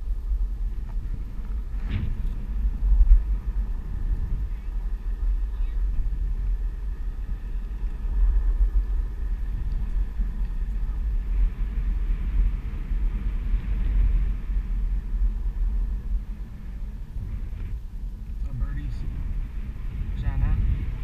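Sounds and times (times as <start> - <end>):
wheel rolling on pavement: 0.0 - 21.0
wind buffeting microphone: 0.0 - 21.0.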